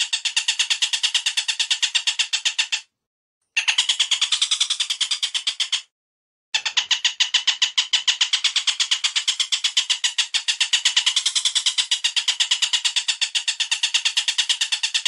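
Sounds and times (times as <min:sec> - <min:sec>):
bird call of rapid repeated notes: 0:00.0 - 0:02.9, 0:03.5 - 0:05.9, 0:06.5 - 0:15.0.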